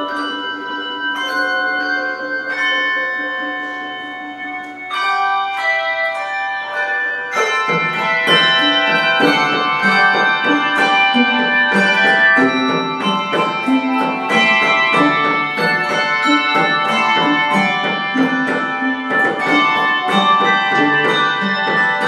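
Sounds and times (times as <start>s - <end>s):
handbell choir playing: 0.0s - 22.0s.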